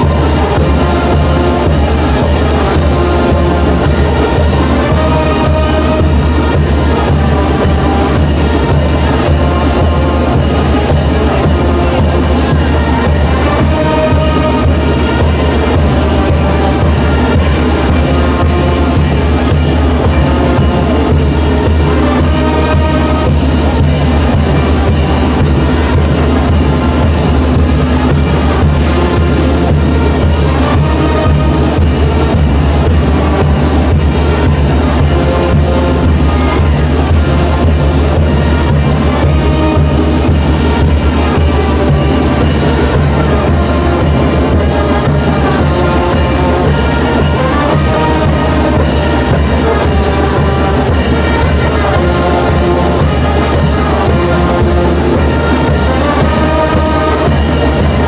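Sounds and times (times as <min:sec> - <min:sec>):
brass band playing dance music: 0:00.0 - 0:58.0
steady drum beat: 0:00.0 - 0:58.0.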